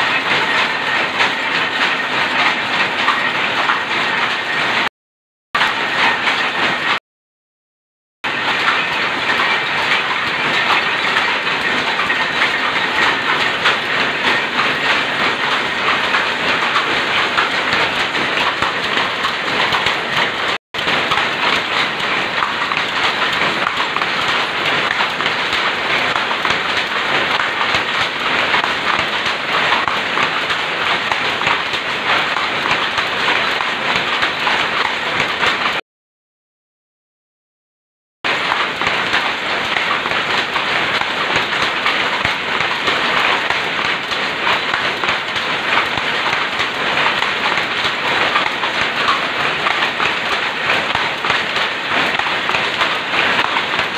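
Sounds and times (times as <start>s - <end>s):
power loom clattering: 0.0s - 4.9s, 5.6s - 7.0s, 8.3s - 35.8s, 38.3s - 53.9s.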